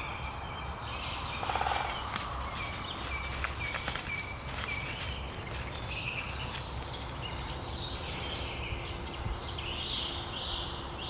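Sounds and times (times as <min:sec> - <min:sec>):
birds singing and chirping: 0:00.0 - 0:11.0.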